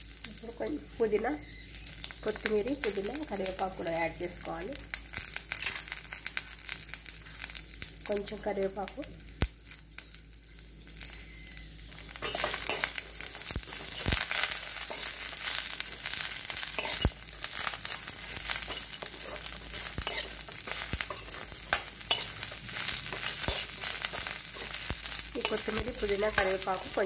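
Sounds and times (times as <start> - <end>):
leaves sizzling in hot oil: 0.0 - 27.0.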